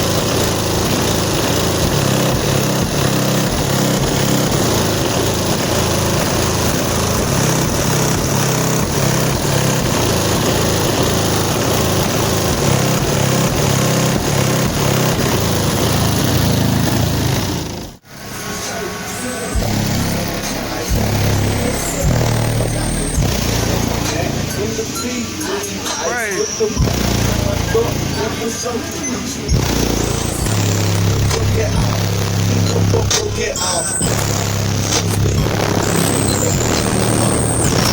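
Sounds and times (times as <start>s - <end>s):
loud distorted subwoofer bass: 0.0s - 37.9s.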